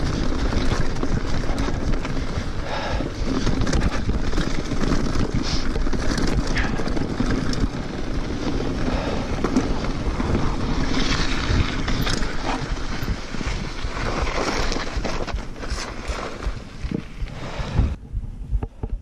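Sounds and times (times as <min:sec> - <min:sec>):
bike clicks and rattles: 0:00.0 - 0:17.8
bike tyre noise: 0:00.0 - 0:19.0
wind rushing over microphone: 0:00.0 - 0:19.0.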